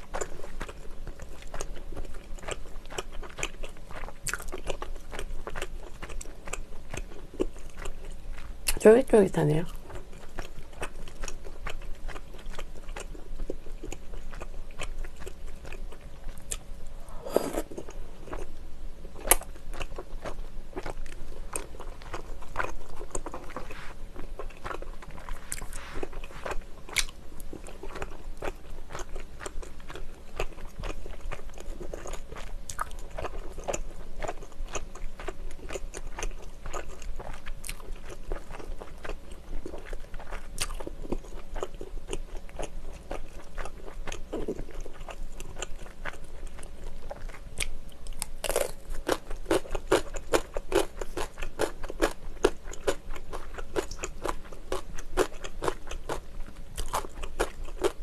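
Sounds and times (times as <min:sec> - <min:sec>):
close-miked chewing: 0:00.0 - 0:58.0.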